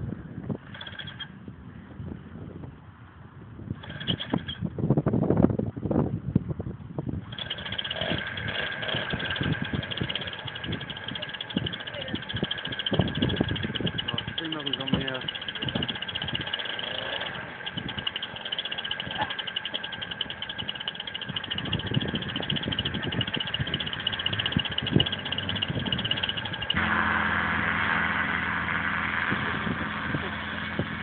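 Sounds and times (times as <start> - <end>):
paramotor engine and propeller: 0.0 - 5.6, 6.8 - 31.0.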